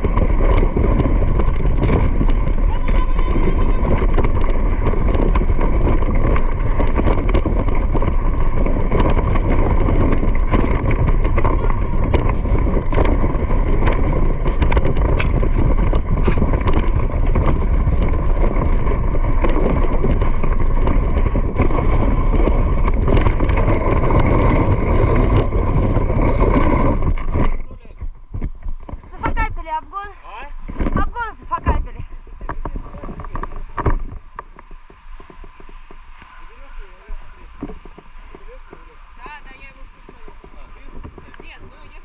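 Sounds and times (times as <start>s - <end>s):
rumbling of fast movement: 0.0s - 42.0s
wind buffeting microphone: 0.0s - 42.0s.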